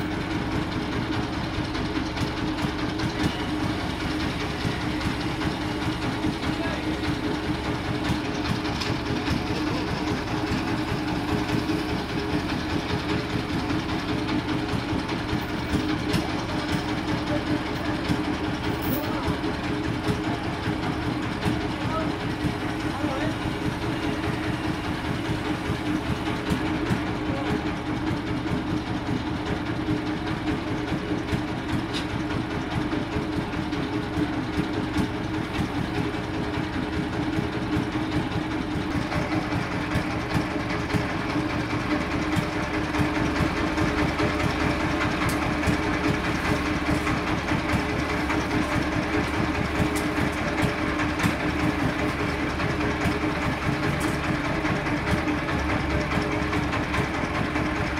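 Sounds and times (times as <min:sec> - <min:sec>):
industrial bandsaw running: 0:00.0 - 0:57.9.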